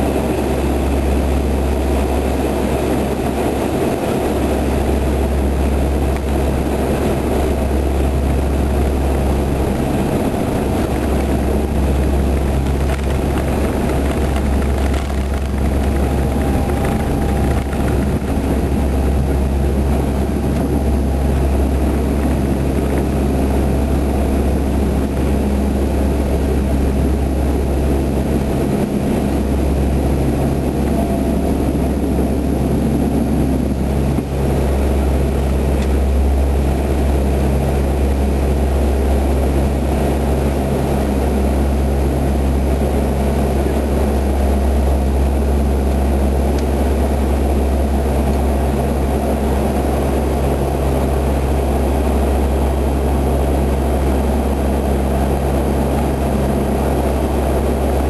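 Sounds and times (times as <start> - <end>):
propeller engine drone: 0.0 - 58.0.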